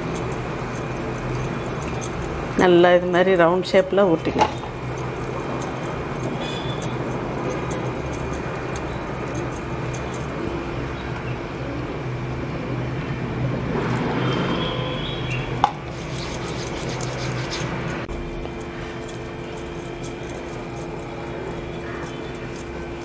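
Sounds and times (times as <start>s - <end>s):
background hum: 0.0s - 23.0s
street traffic: 0.0s - 23.0s.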